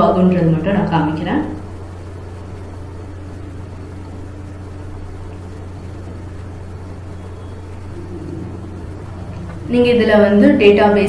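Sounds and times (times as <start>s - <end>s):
low microphone hum: 0.0s - 11.0s.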